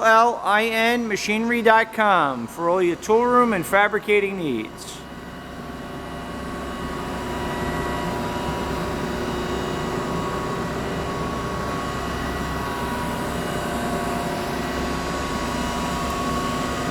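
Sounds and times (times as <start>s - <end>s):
grinding machine hum and whine: 0.0s - 16.9s.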